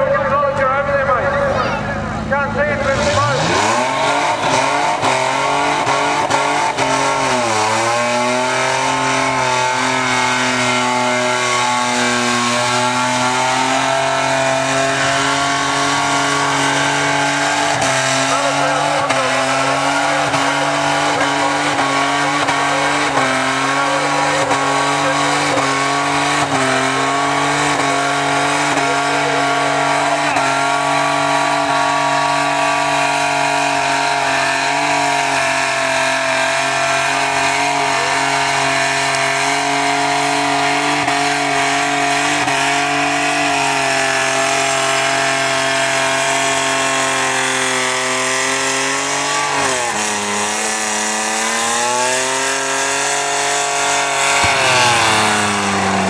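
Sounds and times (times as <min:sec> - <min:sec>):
car engine at high revs: 0:00.0 - 0:56.0
tyres squealing: 0:02.8 - 0:56.0.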